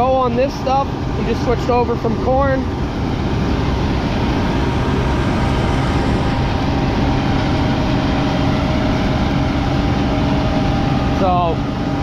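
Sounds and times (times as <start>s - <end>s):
farm machinery engine drone: 0.0s - 12.0s.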